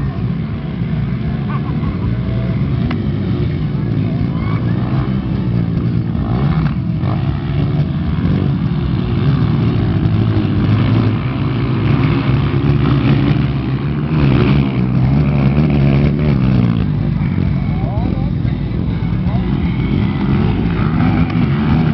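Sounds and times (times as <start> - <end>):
dirt bike engines revving: 0.0 - 21.9.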